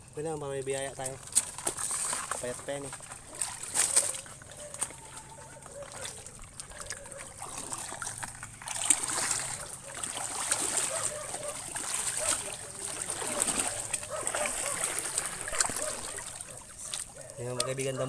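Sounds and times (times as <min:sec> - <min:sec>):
shallow water splashing and sloshing: 0:00.0 - 0:18.0
water drips: 0:00.0 - 0:18.0.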